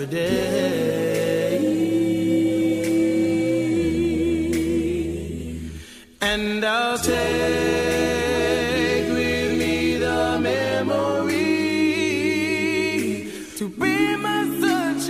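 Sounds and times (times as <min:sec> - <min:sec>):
men singing wordless harmonies: 0:00.0 - 0:15.0.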